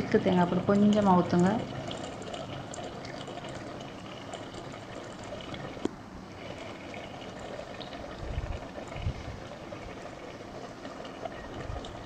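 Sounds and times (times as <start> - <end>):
rice bubbling in a pot: 0.0 - 12.0.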